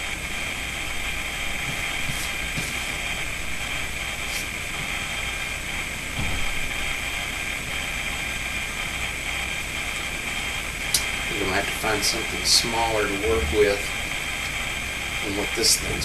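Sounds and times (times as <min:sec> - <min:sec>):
whirring fan hiss: 0:00.0 - 0:16.0.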